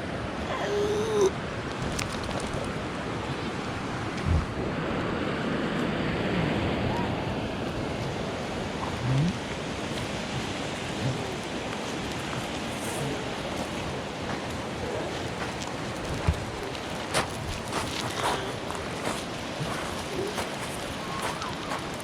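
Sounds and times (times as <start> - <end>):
river stream flowing: 2.6 - 22.0.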